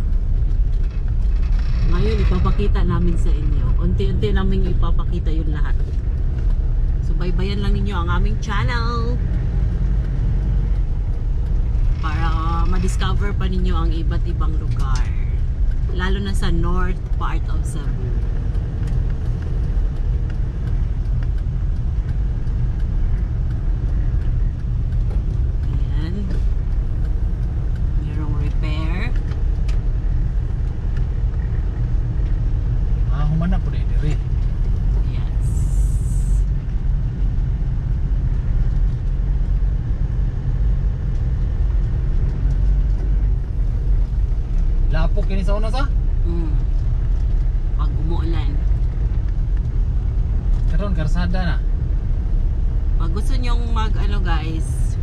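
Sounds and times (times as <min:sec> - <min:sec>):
vehicle driving on road: 0:00.0 - 0:55.0.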